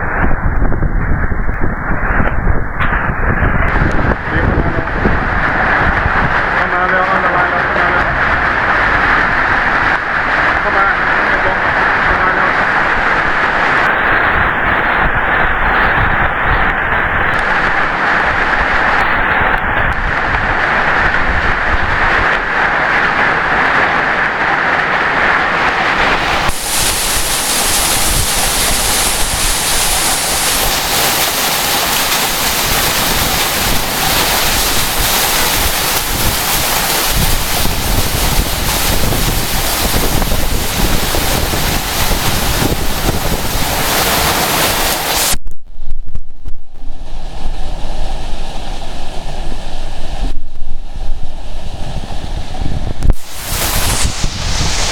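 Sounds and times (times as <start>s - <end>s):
heavy rain pouring: 0.0s - 45.4s, 46.7s - 54.9s
wind buffeting microphone: 0.0s - 54.9s.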